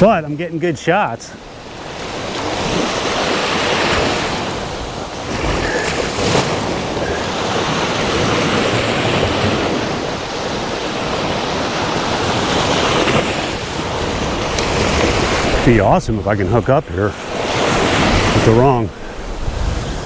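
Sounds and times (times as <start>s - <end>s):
ocean surf washing onto beach: 0.0s - 20.0s
wind buffeting microphone: 1.5s - 20.0s.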